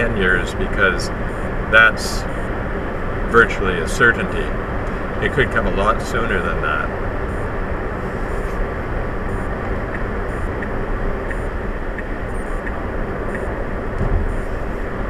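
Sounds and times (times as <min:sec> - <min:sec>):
road and tyre noise in car cabin: 0:00.0 - 0:15.0.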